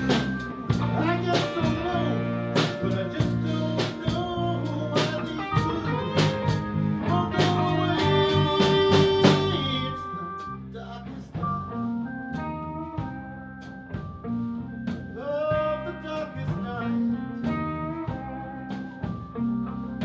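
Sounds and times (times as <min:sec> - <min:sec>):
blues band playing live: 0:00.0 - 0:20.0.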